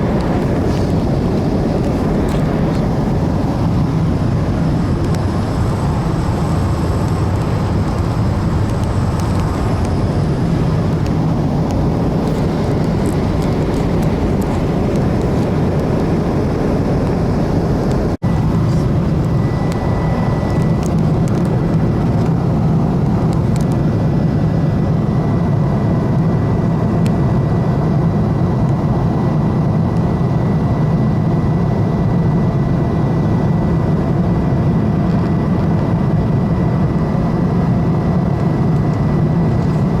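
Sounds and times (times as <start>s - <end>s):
airliner cabin engine noise: 0.0s - 40.0s.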